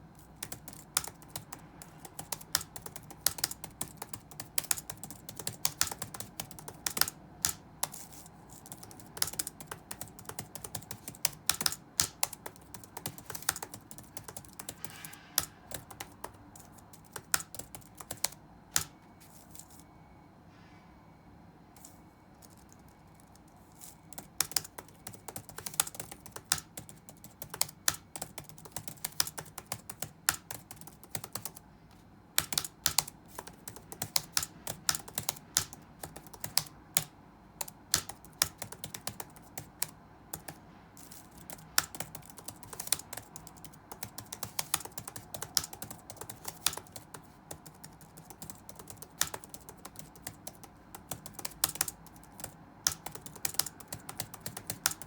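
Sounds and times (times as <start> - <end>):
computer keyboard typing: 0.0 - 19.7, 21.8 - 31.6, 32.3 - 55.0.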